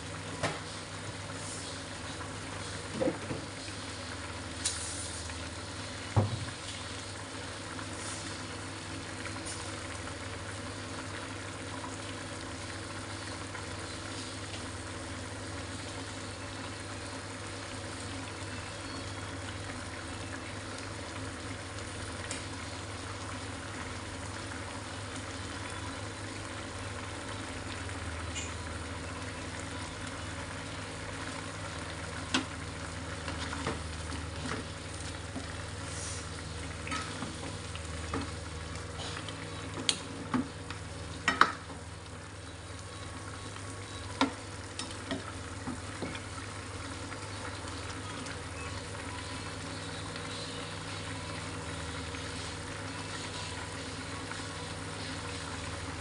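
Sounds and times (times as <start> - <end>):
sauce bubbling and sizzling: 0.0 - 56.0.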